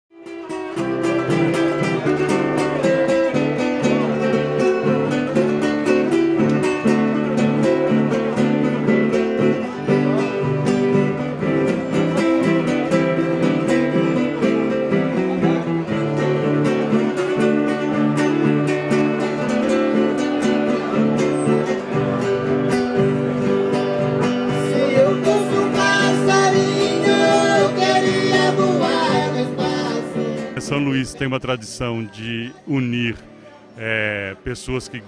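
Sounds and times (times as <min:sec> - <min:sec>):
acoustic guitar strumming: 0:00.2 - 0:35.0.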